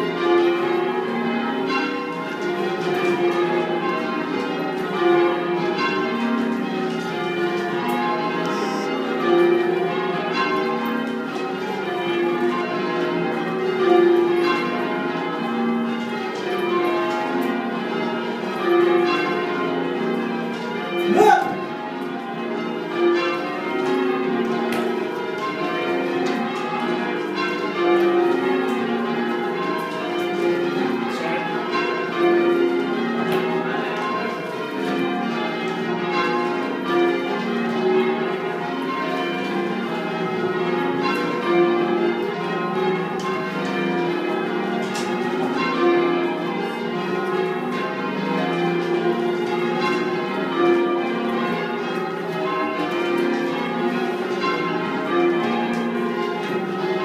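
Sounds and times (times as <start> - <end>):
church bells change ringing: 0.0 - 57.0.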